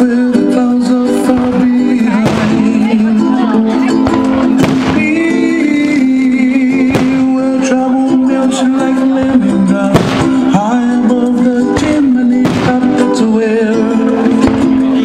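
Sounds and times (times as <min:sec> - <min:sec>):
music playing: 0:00.0 - 0:15.0
fireworks bursting: 0:00.6 - 0:14.8.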